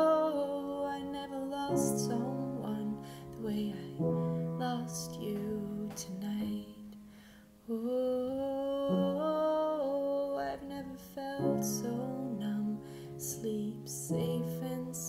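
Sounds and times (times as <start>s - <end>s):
piano playing slow chords: 0.0s - 15.0s
woman singing wordless notes: 0.0s - 15.0s.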